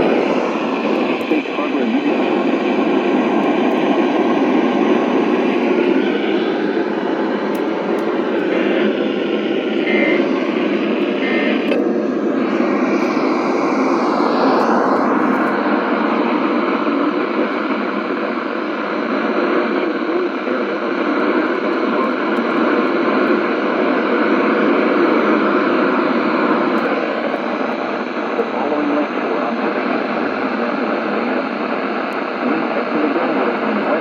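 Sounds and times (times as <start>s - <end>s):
radio static hiss: 0.0s - 34.0s.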